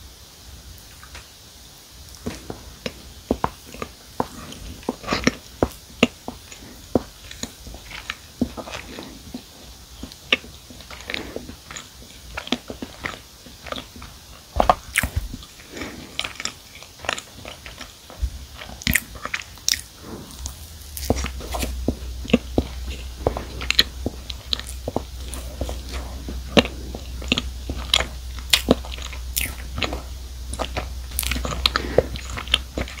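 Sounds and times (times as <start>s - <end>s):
chewing with sticky mouth sounds: 0.8s - 1.4s, 2.0s - 33.0s.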